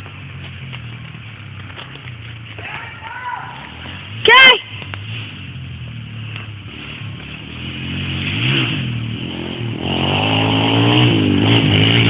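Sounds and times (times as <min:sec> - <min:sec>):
dirt bike engine revving: 0:02.2 - 0:12.0.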